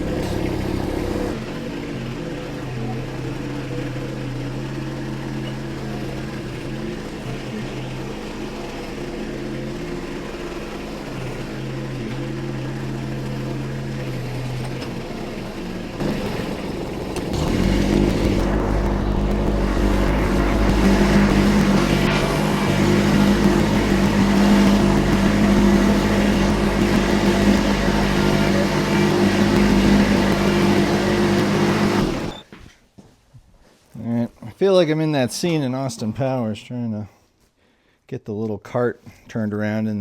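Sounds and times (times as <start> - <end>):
tractor diesel engine running: 0.0 - 32.5.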